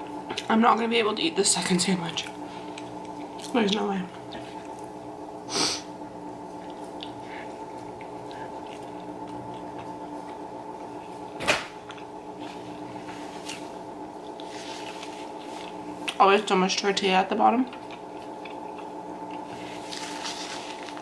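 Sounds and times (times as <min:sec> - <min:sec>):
steady hum: 0:00.0 - 0:21.0
chewing tortilla: 0:01.6 - 0:05.1, 0:06.3 - 0:16.5, 0:17.6 - 0:21.0.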